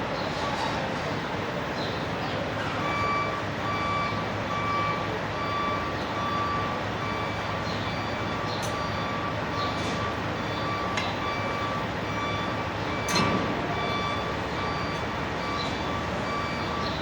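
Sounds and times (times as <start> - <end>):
engines and traffic din: 0.0 - 17.0
vehicle reversing alarm beeping: 1.9 - 17.0.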